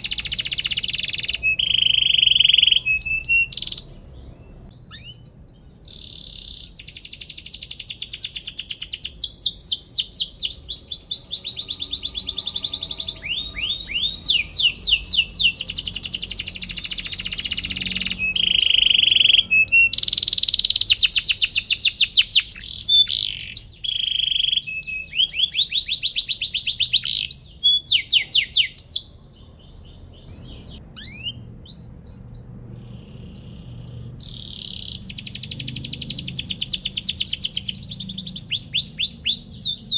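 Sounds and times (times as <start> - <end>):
canary singing trills and chirps: 0.0 - 39.9.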